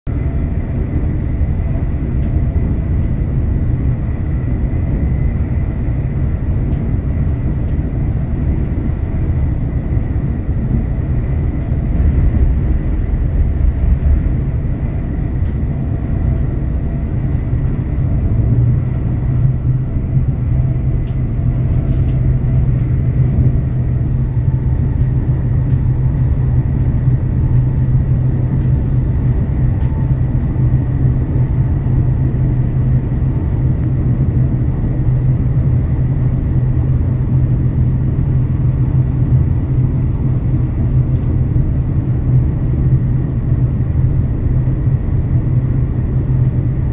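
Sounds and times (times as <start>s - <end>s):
low hum: 0.1s - 46.9s
train wheels rumbling on rail: 0.1s - 46.9s.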